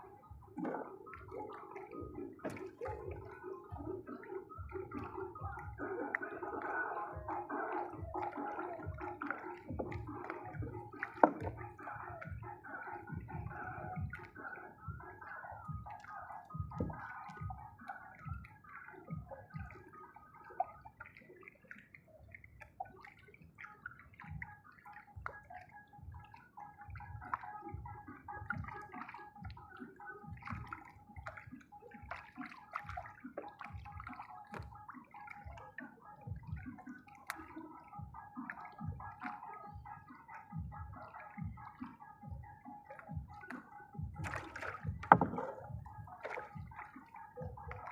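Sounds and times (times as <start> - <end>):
water gurgling and sloshing: 0.0 - 47.9.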